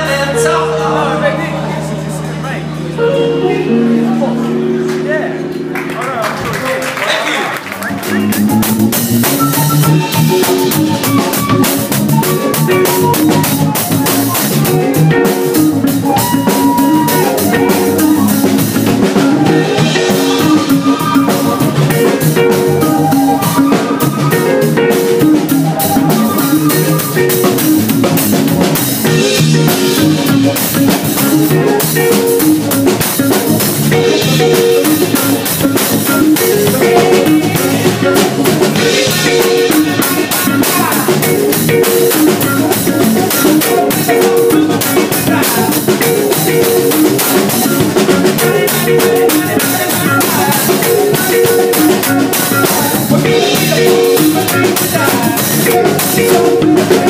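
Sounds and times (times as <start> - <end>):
soul band playing: 0.0 - 57.0
flute melody: 7.7 - 57.0.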